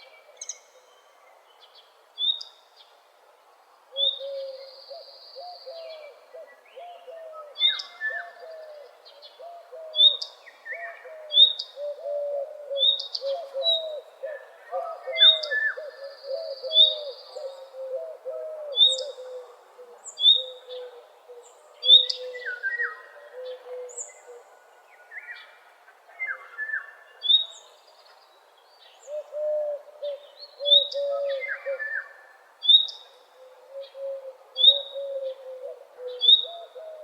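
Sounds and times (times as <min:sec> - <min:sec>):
birds singing: 0:04.0 - 0:37.0.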